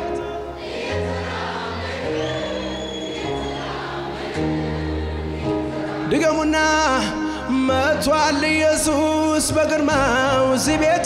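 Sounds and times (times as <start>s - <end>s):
choir-like voices: 0.0s - 9.0s.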